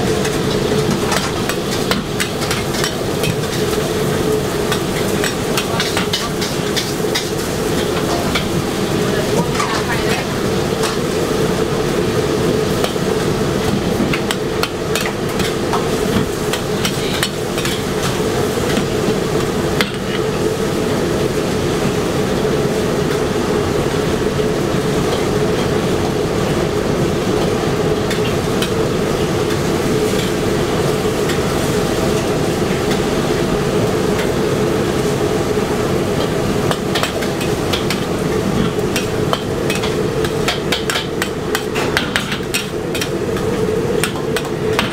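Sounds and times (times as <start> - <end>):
gas burner flame roaring: 0.0 - 44.9.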